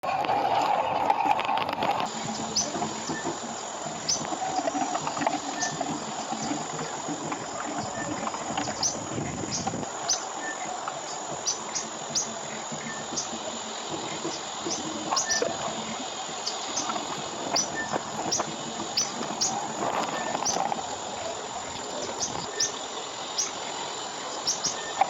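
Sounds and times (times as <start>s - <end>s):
steady hiss: 0.1s - 25.0s.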